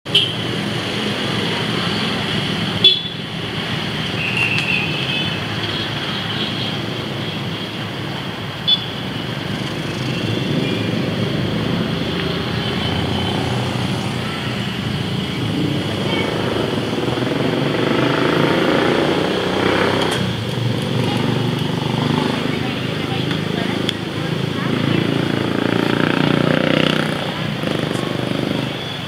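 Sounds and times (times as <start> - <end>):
road traffic noise: 0.0 - 29.0.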